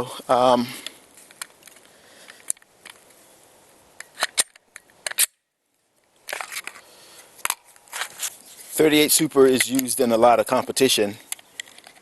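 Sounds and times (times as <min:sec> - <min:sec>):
rustling handling noise: 0:00.9 - 0:05.0, 0:05.7 - 0:12.0.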